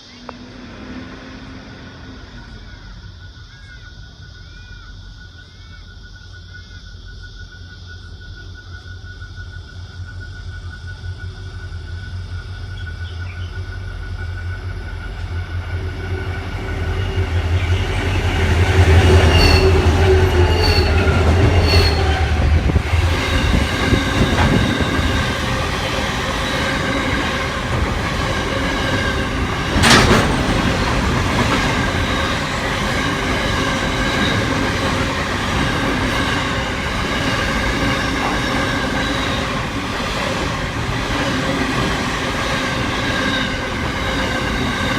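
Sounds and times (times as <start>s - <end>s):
train deep hum: 0.0s - 44.9s
wheels rumbling and squealing on rails: 0.0s - 44.9s.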